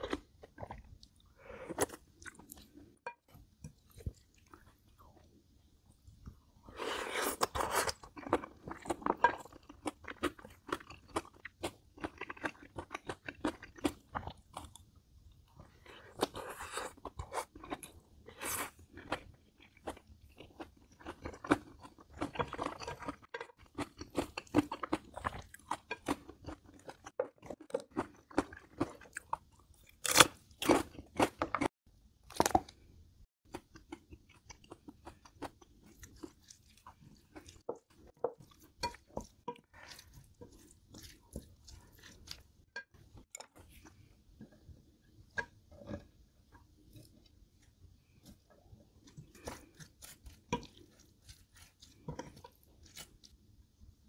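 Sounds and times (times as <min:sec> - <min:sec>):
person chewing and crunching food: 0:00.0 - 0:05.3, 0:06.3 - 0:53.6.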